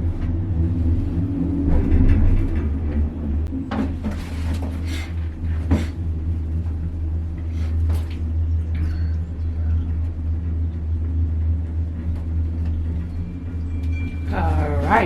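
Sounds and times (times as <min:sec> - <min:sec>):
gondola cabin rumbling on cable: 0:00.0 - 0:15.0.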